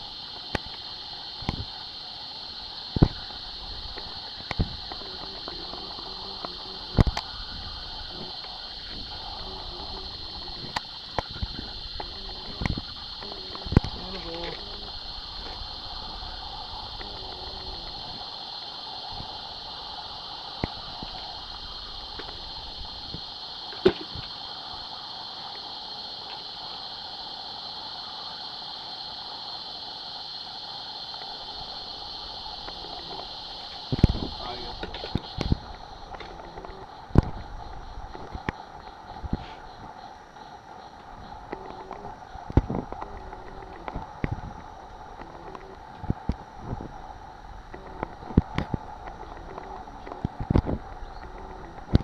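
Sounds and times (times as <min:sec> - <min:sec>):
insects droning: 0:00.0 - 0:52.0
rainforest ambience hiss: 0:00.0 - 0:52.0.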